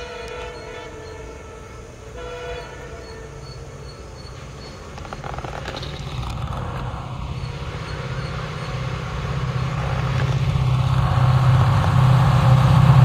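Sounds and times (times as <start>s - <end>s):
locomotive engine drumming: 0.0s - 13.0s.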